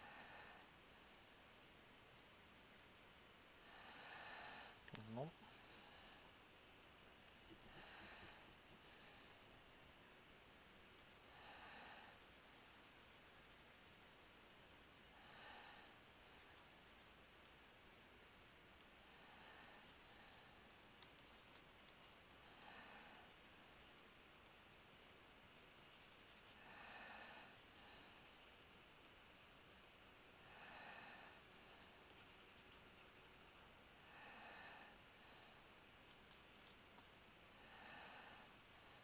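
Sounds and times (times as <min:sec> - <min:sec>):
faint room hiss: 0:00.0 - 0:39.0.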